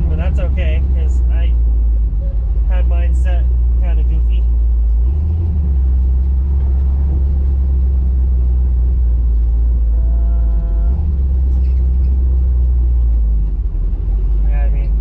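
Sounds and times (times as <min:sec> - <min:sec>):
car engine running with low rumble: 0:00.0 - 0:15.0.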